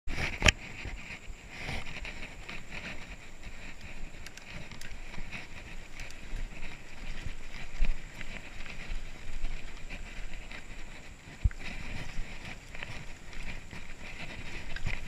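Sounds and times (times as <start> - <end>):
bike rattling: 0.1 - 15.0
bike tyres rumbling on dirt: 0.1 - 15.0.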